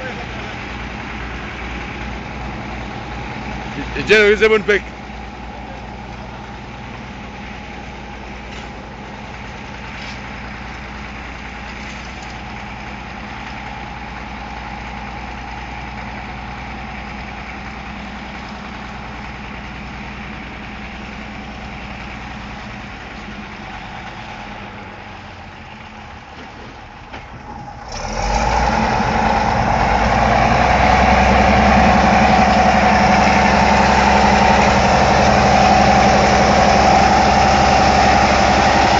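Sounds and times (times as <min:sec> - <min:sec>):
heavy machinery engine running: 0:00.0 - 0:38.9.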